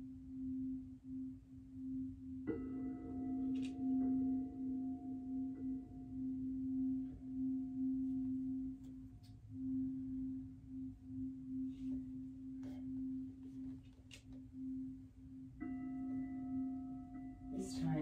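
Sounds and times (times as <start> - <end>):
singing bowl ringing: 0.0 - 18.0.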